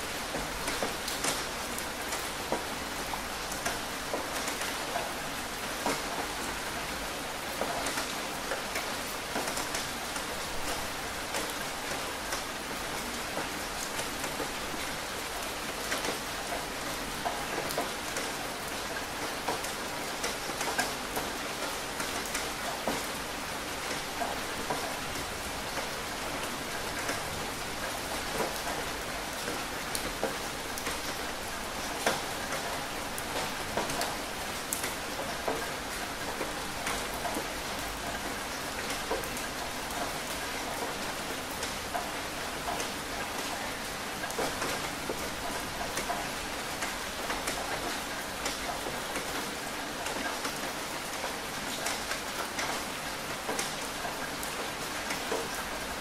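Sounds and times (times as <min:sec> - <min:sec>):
raindrops hitting close by: 0:00.0 - 0:56.0
steady rain falling: 0:00.0 - 0:56.0.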